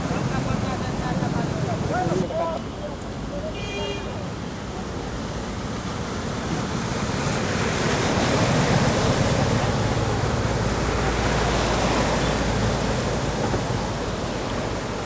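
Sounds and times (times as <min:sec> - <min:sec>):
floodwater rushing and splashing: 0:00.0 - 0:15.0.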